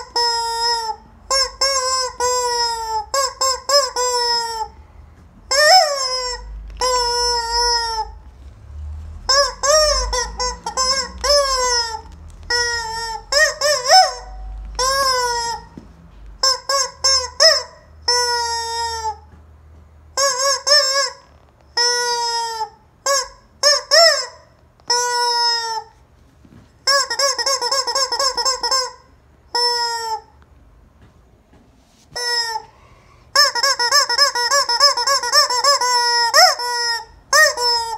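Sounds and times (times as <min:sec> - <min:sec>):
rubber squeaky toy squealing: 0:00.0 - 0:04.8, 0:05.4 - 0:08.3, 0:09.2 - 0:15.8, 0:16.4 - 0:19.3, 0:20.2 - 0:26.0, 0:26.8 - 0:30.4, 0:32.1 - 0:32.7, 0:33.3 - 0:37.9.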